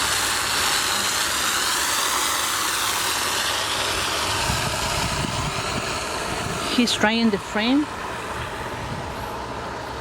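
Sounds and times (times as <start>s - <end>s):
water spraying: 0.0s - 10.0s.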